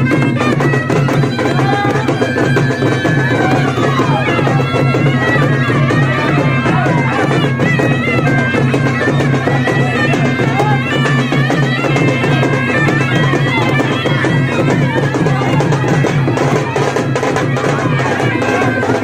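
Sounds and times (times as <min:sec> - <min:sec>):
reedy wind instrument melody: 0:00.0 - 0:19.0
steady drum beat: 0:00.0 - 0:19.0.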